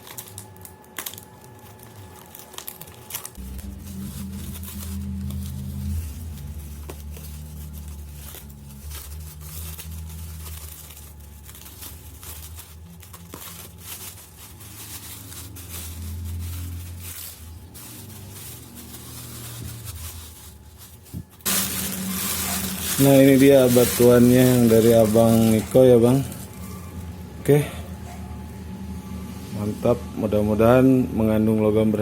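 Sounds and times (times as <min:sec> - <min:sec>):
wrapping paper tearing and crumpling: 0:00.0 - 0:29.7
steady low hum: 0:00.3 - 0:32.0.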